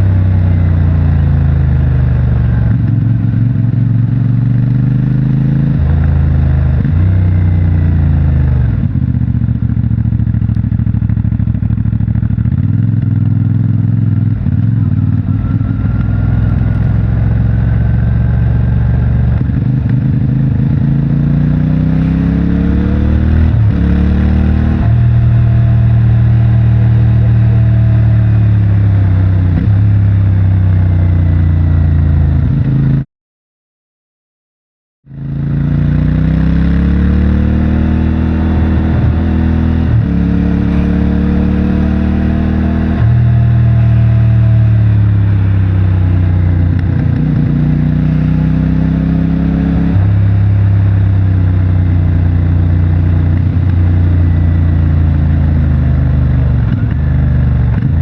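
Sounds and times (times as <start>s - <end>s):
motorcycle engine revving: 0.0s - 33.0s, 35.1s - 58.0s.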